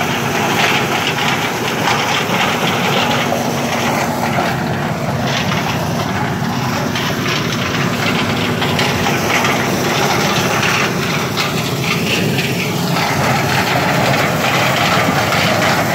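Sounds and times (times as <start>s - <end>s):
engine drone: 0.0s - 15.9s
maize sheller noise: 0.0s - 15.9s.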